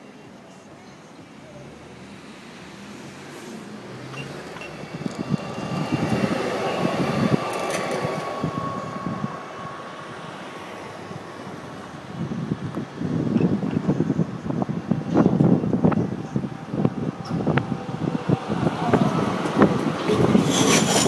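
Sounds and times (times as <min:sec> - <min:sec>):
road noise: 0:00.0 - 0:21.0
tram passing with high whine: 0:00.0 - 0:21.0
wind buffeting microphone: 0:03.8 - 0:21.0.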